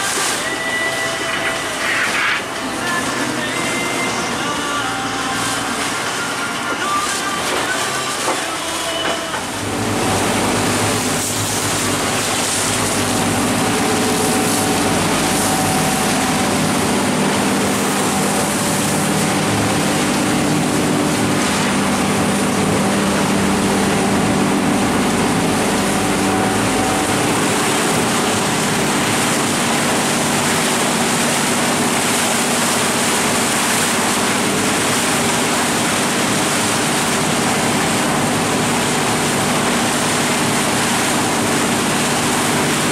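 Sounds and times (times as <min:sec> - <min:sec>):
boat engine running: 0:00.0 - 0:42.9
water spraying off hull: 0:00.0 - 0:42.9.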